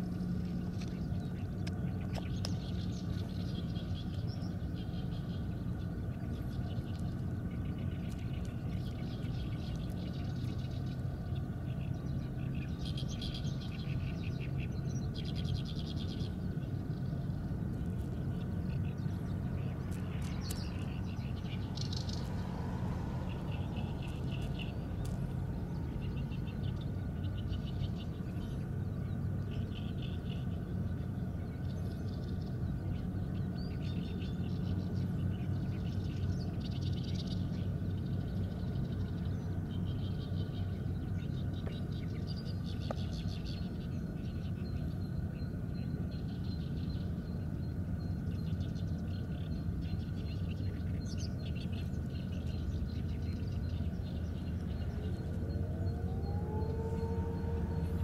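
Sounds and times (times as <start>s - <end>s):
low machine hum: 0.0s - 58.0s
small birds trilling: 0.0s - 58.0s.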